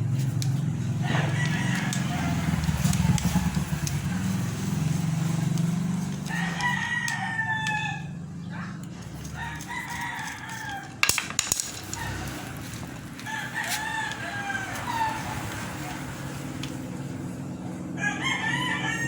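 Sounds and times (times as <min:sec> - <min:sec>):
rooster crowing: 0:00.8 - 0:04.2, 0:04.8 - 0:08.4, 0:09.0 - 0:11.0, 0:11.7 - 0:19.0.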